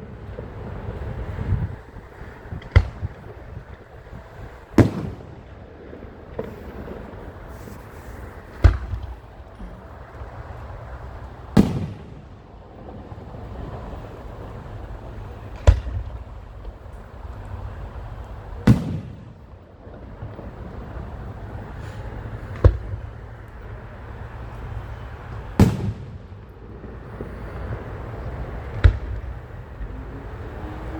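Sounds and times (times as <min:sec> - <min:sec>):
fireworks bursting: 0:00.0 - 0:14.5, 0:17.6 - 0:23.7, 0:24.3 - 0:30.9
low background rumble: 0:00.0 - 0:30.9.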